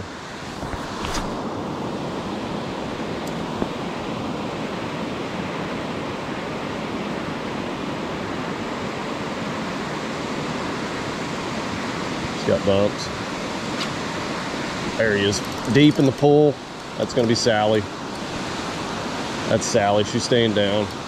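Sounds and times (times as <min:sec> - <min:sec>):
river water over rocks: 0:00.0 - 0:21.0.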